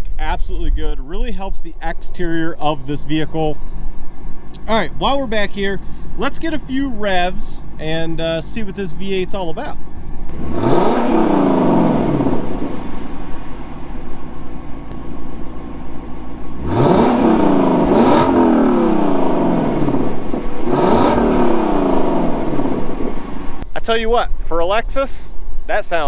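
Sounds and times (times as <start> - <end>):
car engine idling: 0.0 - 24.6
engine throttle blips: 0.0 - 26.0.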